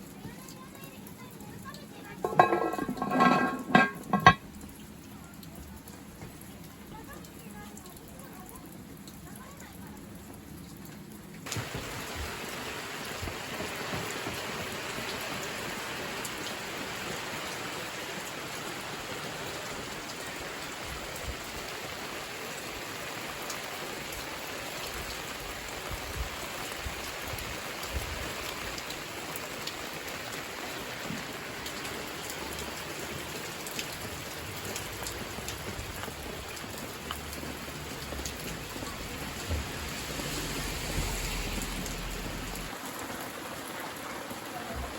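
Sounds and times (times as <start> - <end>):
raindrops ticking on surfaces: 0.0 - 44.9
steady rain falling: 0.0 - 44.9.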